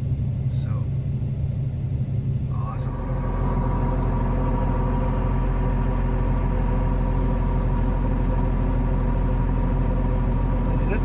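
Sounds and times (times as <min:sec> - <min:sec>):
faint steady whine: 0:00.0 - 0:11.0
tractor engine droning: 0:00.0 - 0:11.0.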